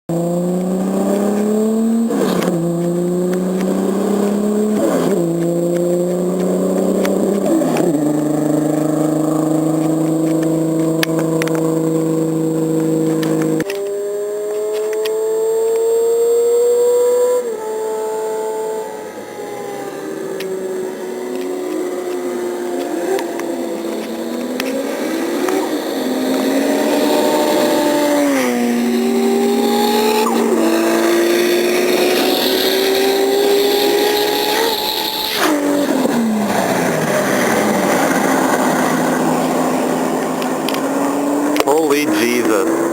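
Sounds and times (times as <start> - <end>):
gear shift rush: 0.1 - 15.9, 19.6 - 42.9
car engine accelerating hard: 0.1 - 42.9.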